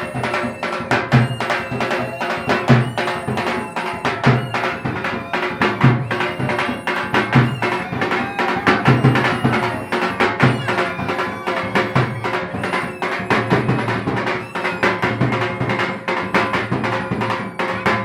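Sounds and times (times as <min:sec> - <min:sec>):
held drone: 0:00.0 - 0:16.2
fast steady drumming: 0:00.0 - 0:18.0.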